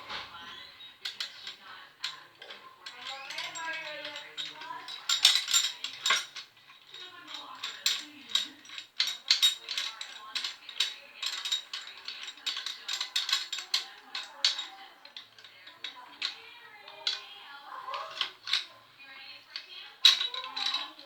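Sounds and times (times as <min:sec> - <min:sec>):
tools and metal hardware clinking: 0:00.0 - 0:21.0.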